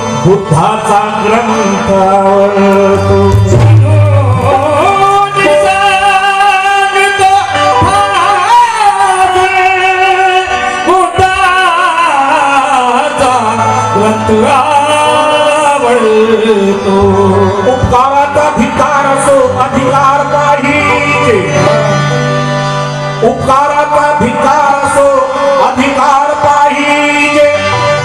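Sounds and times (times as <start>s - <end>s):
instrumental accompaniment: 0.0s - 28.0s
man singing melodic phrases: 0.0s - 28.0s.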